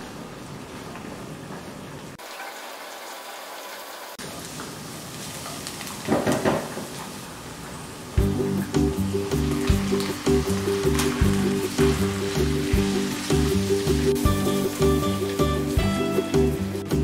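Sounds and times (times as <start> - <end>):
onions sizzling in oil: 2.2 - 17.0.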